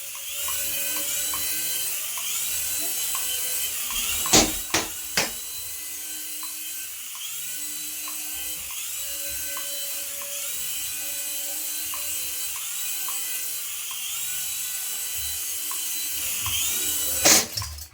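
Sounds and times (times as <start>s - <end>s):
toy electric motor whirring: 0.0s - 17.9s.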